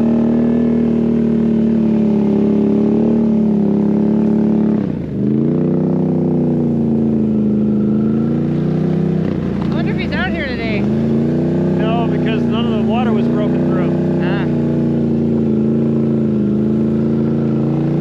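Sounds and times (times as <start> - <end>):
atv engine running under load: 0.0 - 18.0.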